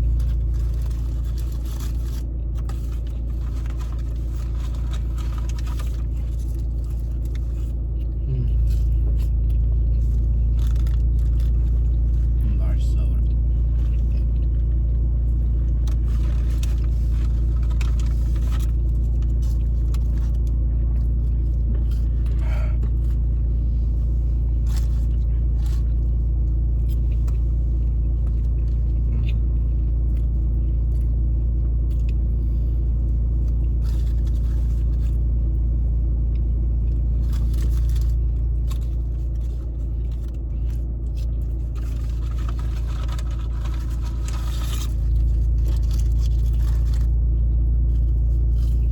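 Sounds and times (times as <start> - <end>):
faint clicks and rustles: 0.0 - 12.4, 13.4 - 29.0, 31.8 - 48.9
low rumble: 0.0 - 48.9.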